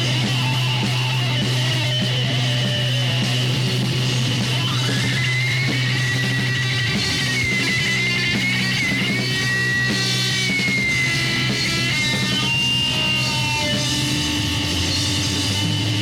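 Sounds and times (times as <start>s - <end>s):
distorted electric guitar: 0.0s - 16.0s
low bass notes: 0.0s - 16.0s.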